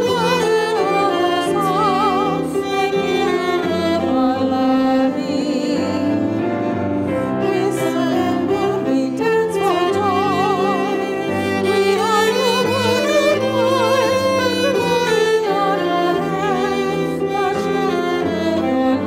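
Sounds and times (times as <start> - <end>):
woman singing a hymn: 0.0 - 6.4, 7.3 - 19.0
instrumental accompaniment: 0.0 - 19.0.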